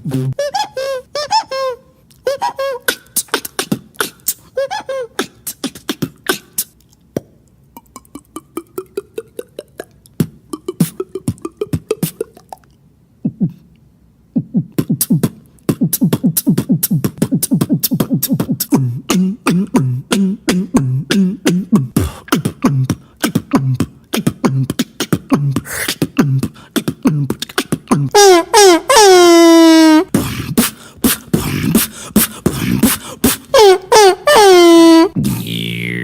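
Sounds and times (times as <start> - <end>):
beatboxing: 0.0 - 0.8, 2.2 - 13.7, 14.3 - 36.0.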